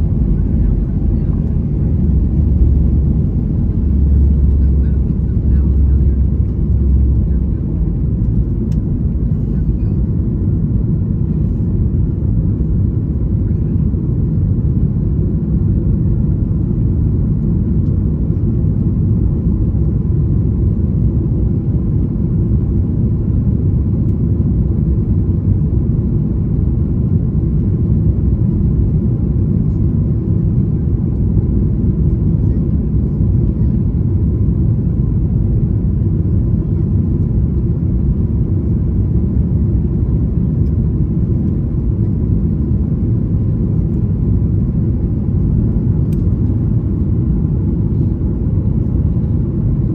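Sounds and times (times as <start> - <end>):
airliner engines rumbling: 0.0 - 49.9.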